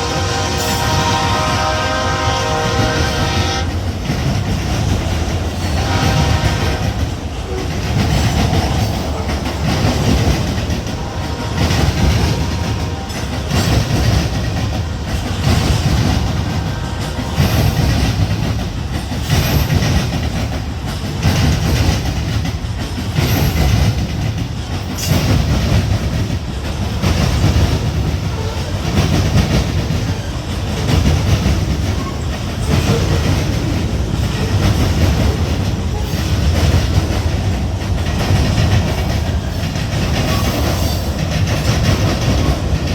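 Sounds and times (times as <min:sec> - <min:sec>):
train wheels clacking over rail joints: 0:00.0 - 0:42.9.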